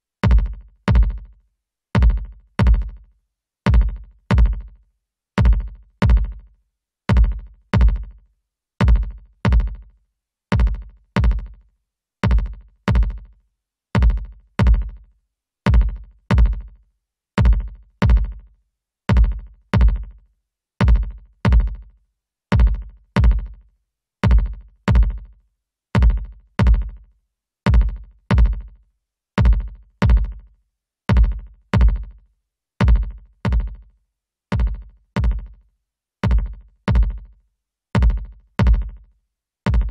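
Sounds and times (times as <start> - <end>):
drum machine kick drum beat: 0.2 - 4.8, 5.4 - 16.8, 17.4 - 28.8, 29.4 - 39.9.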